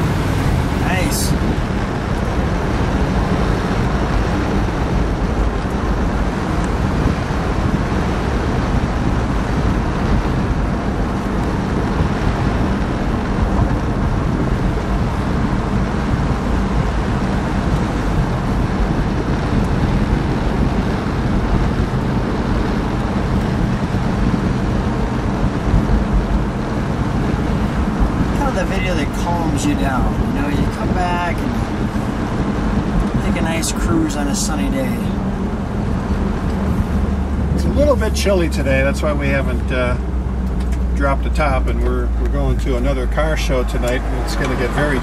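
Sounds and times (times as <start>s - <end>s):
car engine drone: 0.0s - 45.0s
road and wind noise: 0.0s - 45.0s.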